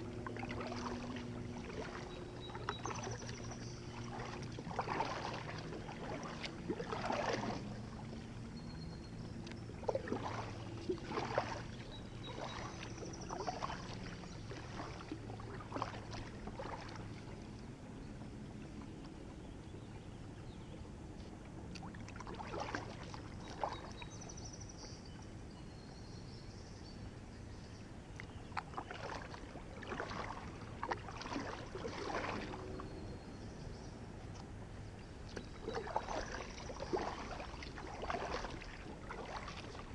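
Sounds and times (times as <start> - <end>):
paddle splashing in water: 0.0 - 25.3, 28.0 - 39.9.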